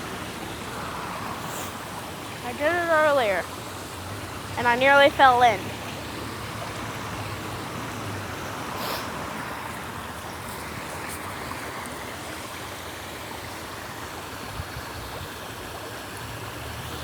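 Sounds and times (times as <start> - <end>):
waterfall splashing into pond: 0.0 - 17.0.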